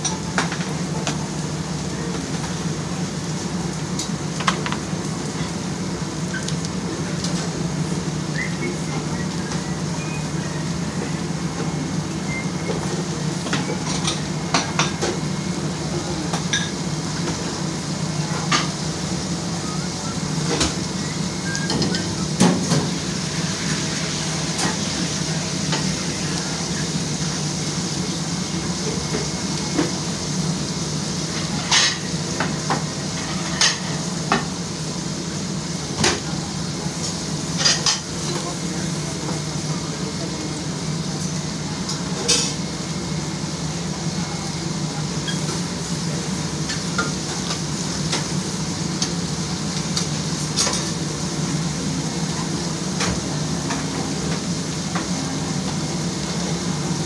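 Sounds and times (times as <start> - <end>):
food sizzling as it fries: 0.0 - 57.0.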